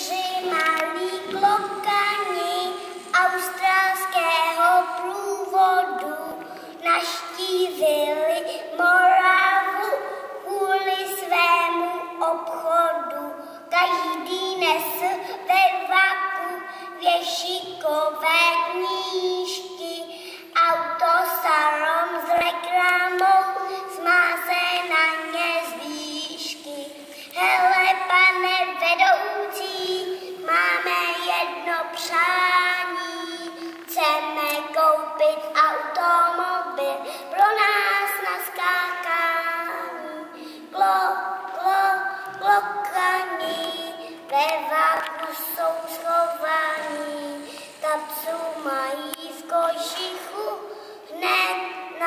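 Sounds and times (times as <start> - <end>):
boy singing: 0.0 - 52.0.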